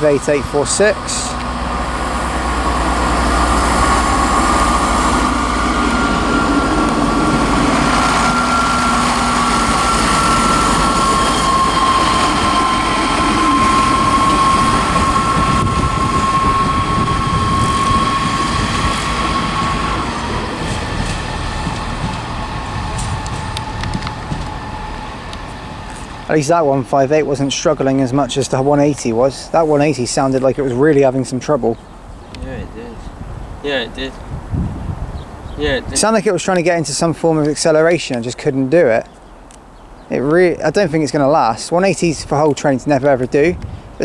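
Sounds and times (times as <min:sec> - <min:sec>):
diesel train engine whining: 0:00.0 - 0:44.0.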